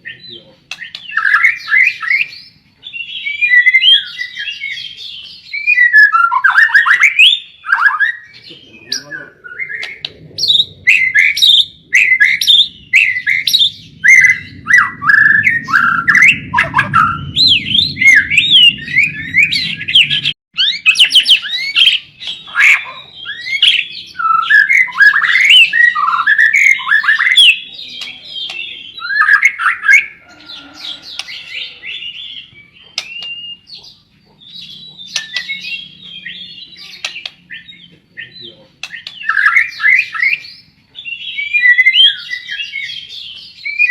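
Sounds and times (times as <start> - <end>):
bird singing whistled phrases: 0.0 - 33.7, 34.5 - 43.9.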